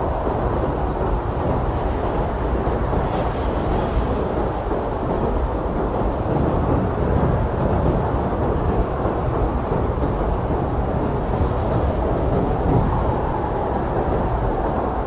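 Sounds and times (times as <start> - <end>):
blizzard wind blowing hard: 0.0 - 15.0.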